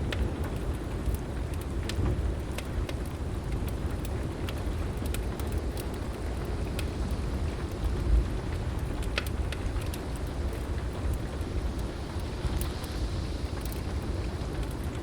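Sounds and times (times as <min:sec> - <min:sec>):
heavy rain: 0:00.0 - 0:15.0
wood fire crackling and popping: 0:00.0 - 0:15.0.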